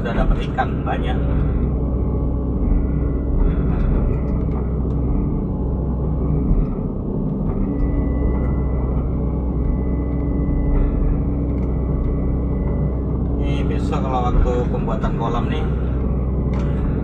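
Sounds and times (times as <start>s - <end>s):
excavator diesel engine running: 0.0s - 17.0s
steady whine: 0.0s - 17.0s.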